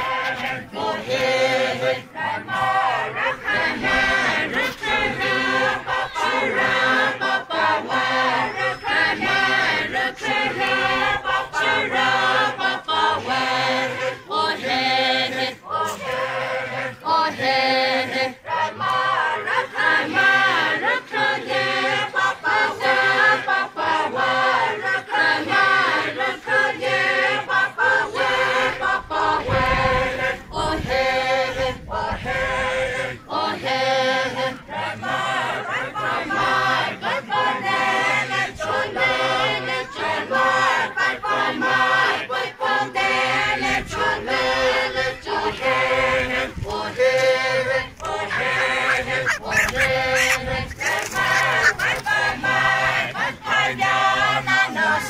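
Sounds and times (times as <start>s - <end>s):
group of voices chanting: 0.0s - 55.0s.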